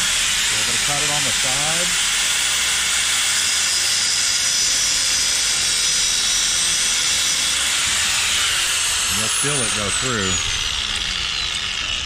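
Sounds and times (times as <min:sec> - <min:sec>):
cutoff wheel grinding metal: 0:00.0 - 0:12.0.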